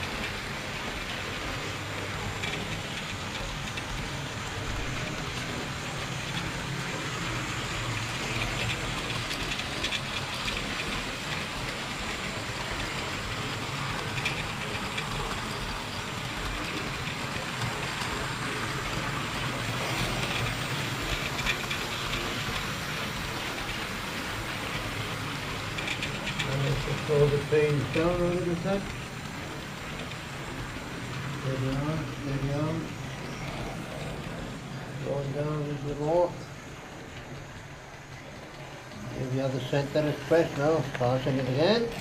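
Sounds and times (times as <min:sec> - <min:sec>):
model train wheels and motor whir: 0:00.0 - 0:42.0.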